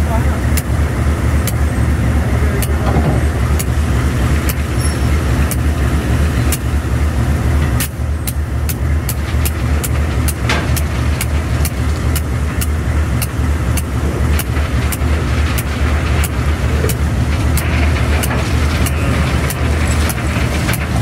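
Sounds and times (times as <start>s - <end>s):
train wagon rumbling on track: 0.0s - 21.0s
sharp rail clicks: 0.4s - 21.0s.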